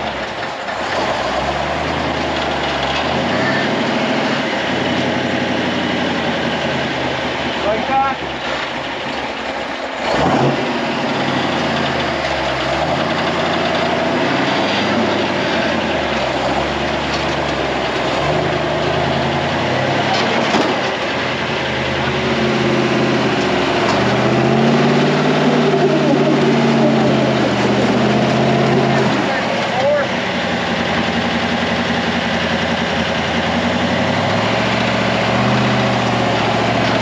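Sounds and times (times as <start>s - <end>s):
buggy engine under load: 0.0s - 37.0s.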